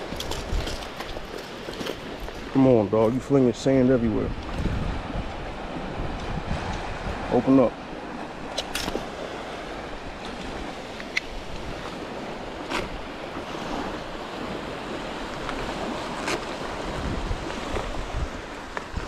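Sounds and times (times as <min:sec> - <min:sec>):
surf waves washing up beach: 0:00.0 - 0:19.0
wind buffeting microphone: 0:00.0 - 0:19.0.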